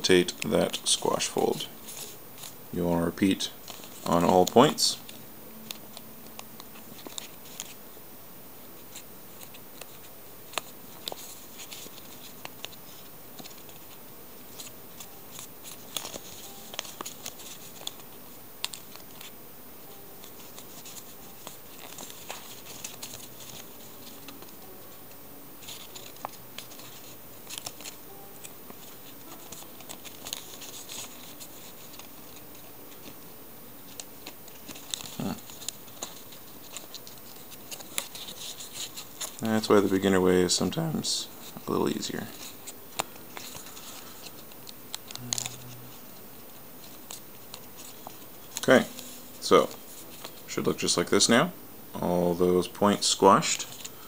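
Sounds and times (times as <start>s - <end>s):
paper rustling and crinkling: 0.0s - 7.8s, 8.9s - 19.3s, 19.9s - 51.2s, 52.5s - 54.0s.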